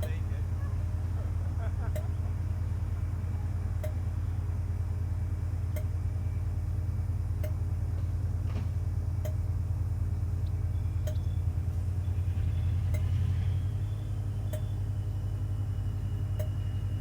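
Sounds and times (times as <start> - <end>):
train rumbling: 0.0 - 5.6, 6.4 - 9.2, 9.8 - 17.0.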